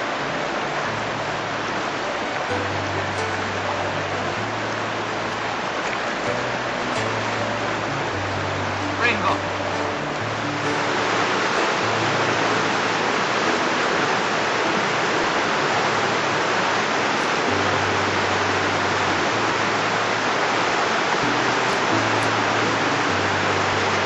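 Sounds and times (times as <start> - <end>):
river running over rocks: 0.0 - 24.0.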